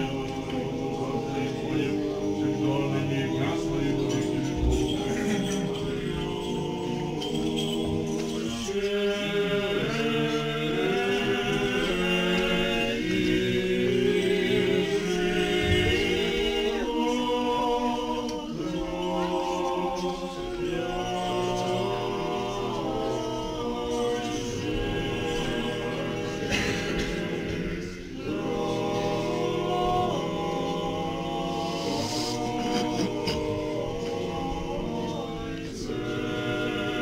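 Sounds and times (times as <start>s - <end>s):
choir singing chant: 0.0s - 37.0s.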